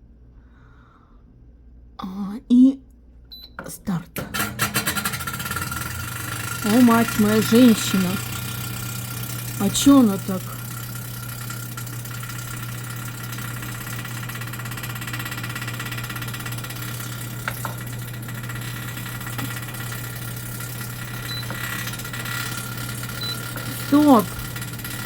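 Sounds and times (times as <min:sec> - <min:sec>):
oven fan rattling hum: 0:03.3 - 0:25.0.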